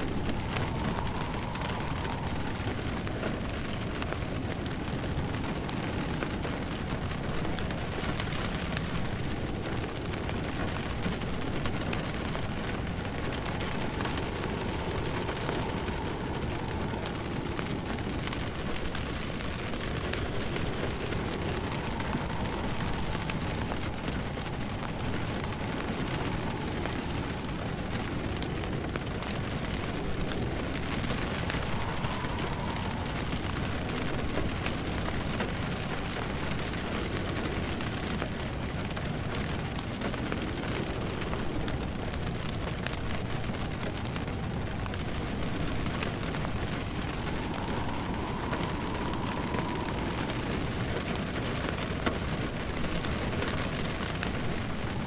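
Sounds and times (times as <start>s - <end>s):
fire crackling in a fireplace: 0.0s - 55.0s
rain pattering: 0.0s - 55.0s.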